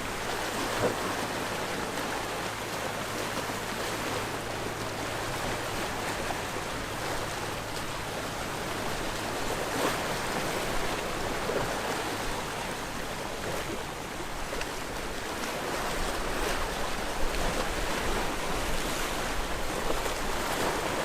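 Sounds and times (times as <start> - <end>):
sea waves washing on shore: 0.0 - 21.0
water splashes: 0.0 - 21.0.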